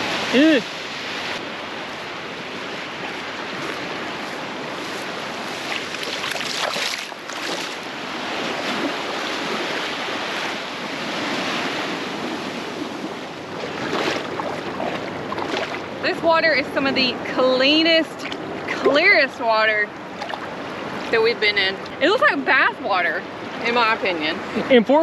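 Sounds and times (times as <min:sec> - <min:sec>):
small waves washing: 0:00.0 - 0:25.0
water splashes: 0:00.0 - 0:25.0
wind on microphone: 0:00.0 - 0:25.0.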